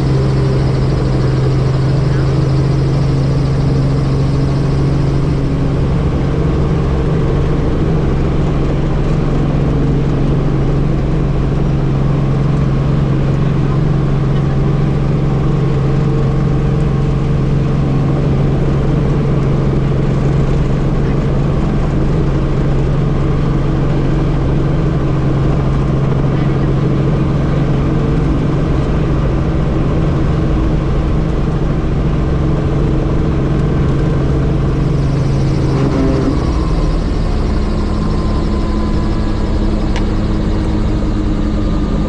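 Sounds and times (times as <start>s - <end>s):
helicopter engine and rotor drone: 0.0s - 42.0s.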